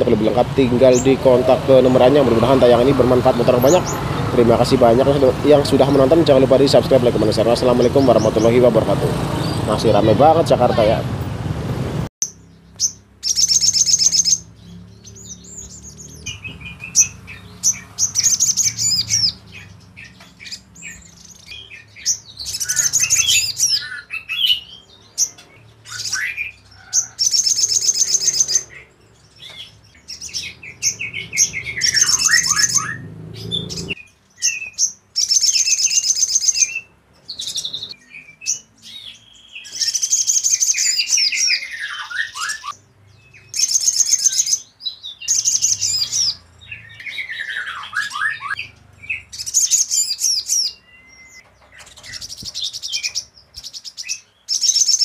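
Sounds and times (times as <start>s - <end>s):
bird twittering trills: 0.0s - 11.1s, 12.2s - 55.0s.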